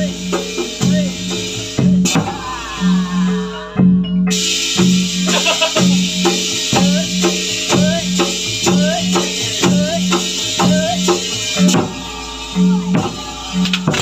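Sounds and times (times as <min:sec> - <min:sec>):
drums struck in a steady beat: 0:00.0 - 0:14.0.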